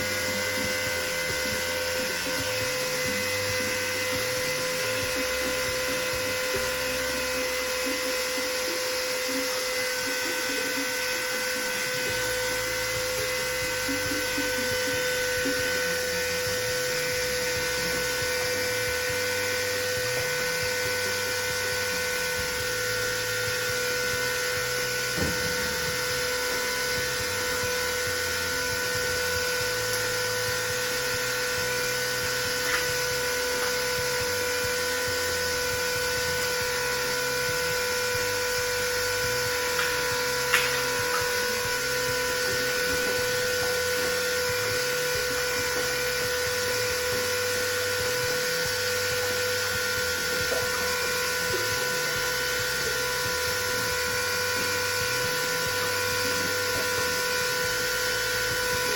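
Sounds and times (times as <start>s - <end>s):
electric pump motor whining: 0.0s - 58.9s.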